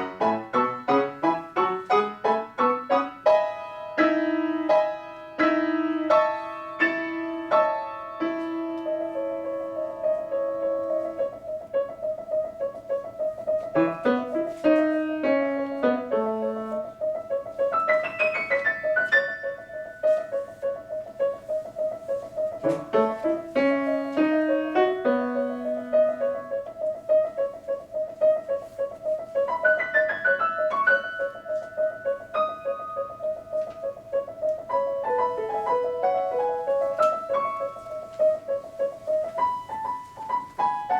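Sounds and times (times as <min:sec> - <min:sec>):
fast rhythmic solo piano: 0:00.0 - 0:40.9.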